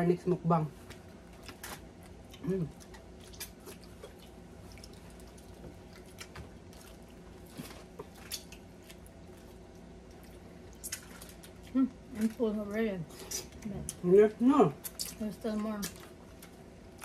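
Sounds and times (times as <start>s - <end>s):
faint low hum: 0.0s - 17.0s
people chewing food: 0.7s - 17.0s.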